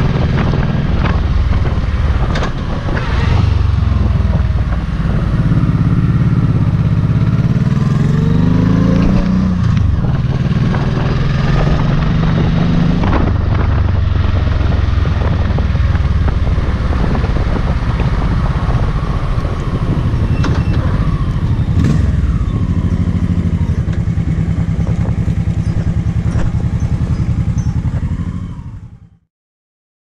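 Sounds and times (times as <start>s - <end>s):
motorcycle engine running: 0.0s - 29.2s.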